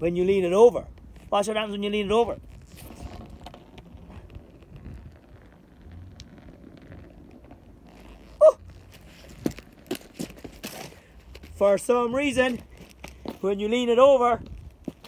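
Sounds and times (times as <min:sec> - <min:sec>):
tyre rolling on tarmac: 0:01.0 - 0:15.0.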